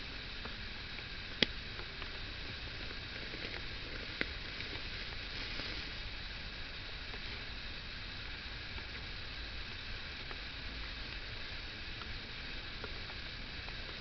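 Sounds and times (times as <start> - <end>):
light rain patter: 0.0 - 14.0.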